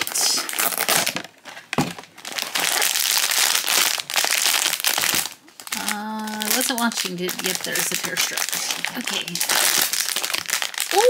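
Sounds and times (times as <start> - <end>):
foil bag crinkling: 0.0 - 11.0.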